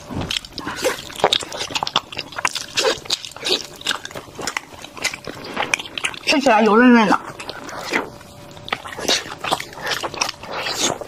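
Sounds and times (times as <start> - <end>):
wet chewing of sticky dough: 0.0 - 11.0.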